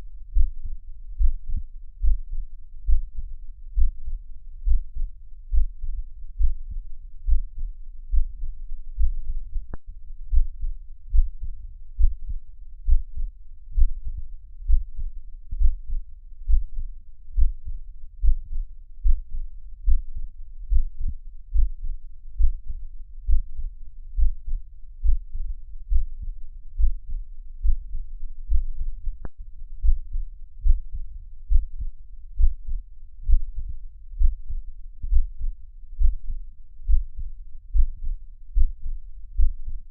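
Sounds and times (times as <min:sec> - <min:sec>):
heartbeat thumps: 0:00.4 - 0:16.8, 0:17.4 - 0:39.9.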